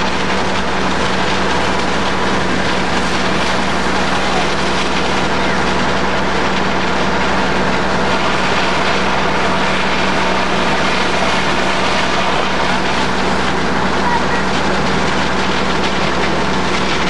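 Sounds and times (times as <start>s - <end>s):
fire engine pump droning: 0.0s - 17.0s.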